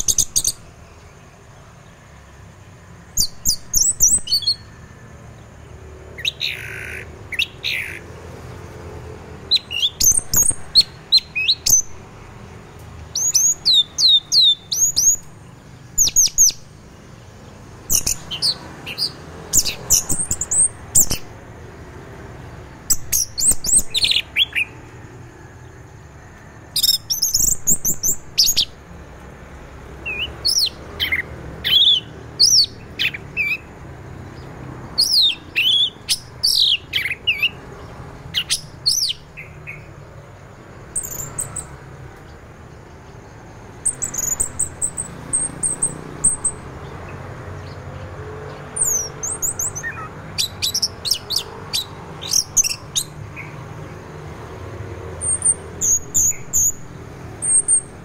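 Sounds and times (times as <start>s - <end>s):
thrush singing whistled notes: 0.0s - 5.3s, 6.1s - 8.2s, 9.4s - 21.5s, 22.6s - 25.1s, 26.7s - 28.8s, 29.9s - 53.9s, 55.0s - 58.0s.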